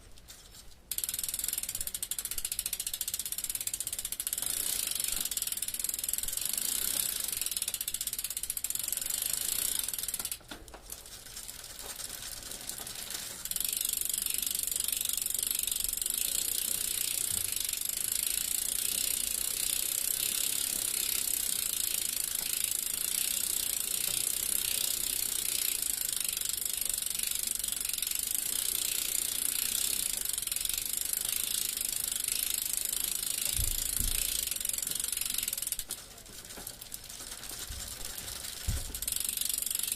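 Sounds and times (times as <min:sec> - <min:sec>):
bicycle freewheel ratcheting: 0:00.0 - 0:39.9.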